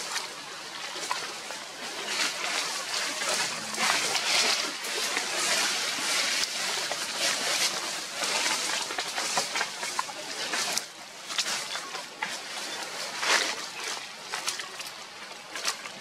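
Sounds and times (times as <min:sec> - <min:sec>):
monkey chewing and slurping: 0:00.0 - 0:16.0.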